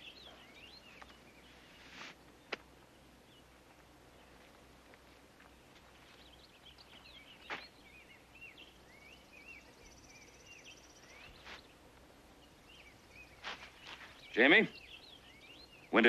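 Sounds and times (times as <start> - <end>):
background hiss: 0.0 - 16.0
faint birds chirping: 0.0 - 16.0.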